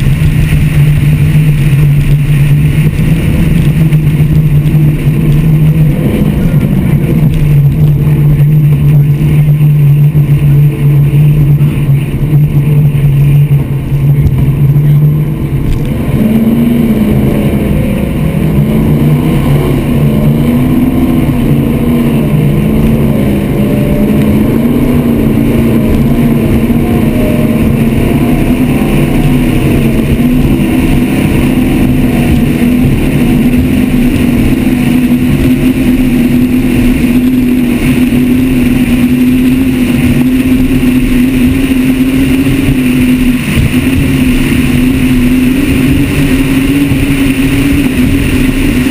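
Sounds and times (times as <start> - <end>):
hull on water: 0.0 - 48.9
racing boat engines: 0.0 - 48.9
wind: 0.0 - 48.9.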